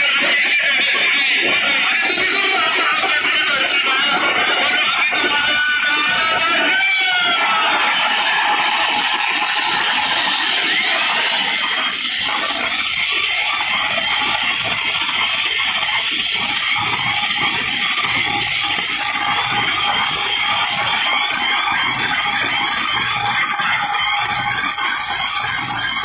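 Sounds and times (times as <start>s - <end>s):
loud distorted speaker roar: 0.0s - 26.0s.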